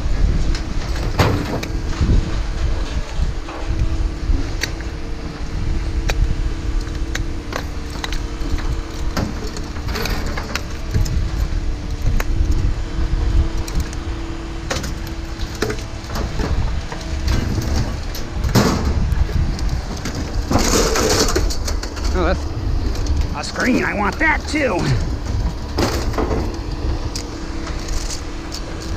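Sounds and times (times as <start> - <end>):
engine running: 0.0 - 28.9.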